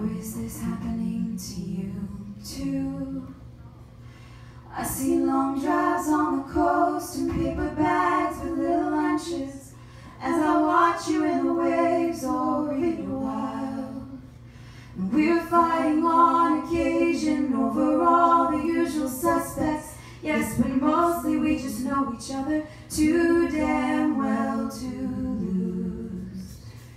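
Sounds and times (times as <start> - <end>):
woman singing a cappella: 0.0 - 3.6, 4.7 - 14.4, 15.0 - 26.8.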